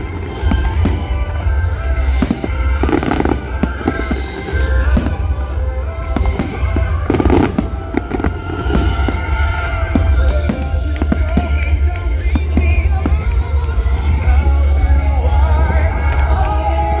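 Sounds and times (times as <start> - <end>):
heavy firework booms: 0.3 - 14.0.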